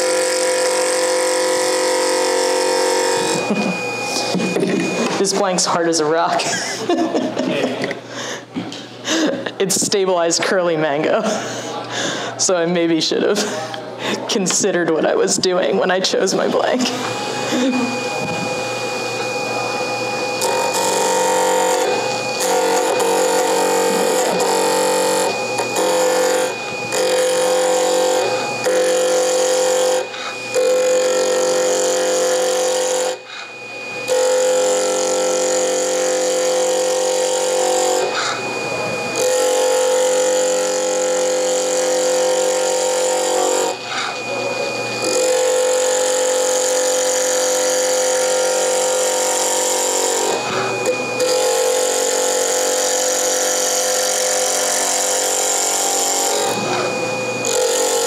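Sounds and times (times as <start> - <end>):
turning tool cutting wood: 0.0 - 5.6, 16.5 - 58.0
wood lathe humming: 0.0 - 6.8, 16.0 - 58.0.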